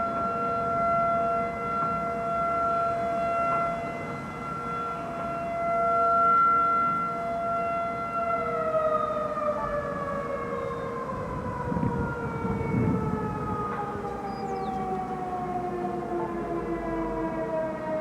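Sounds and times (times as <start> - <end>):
warning siren winding down: 0.0 - 18.0.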